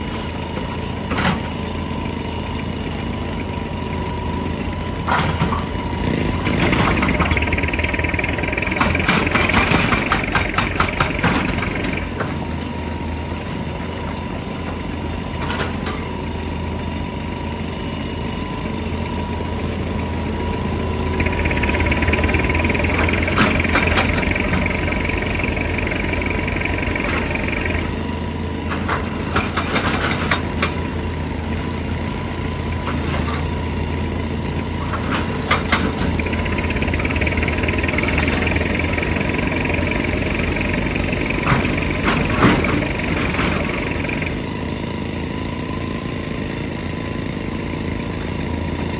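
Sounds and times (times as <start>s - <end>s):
diesel engine whining: 0.0s - 46.7s
hydraulic rock breaker hammering: 0.0s - 48.9s.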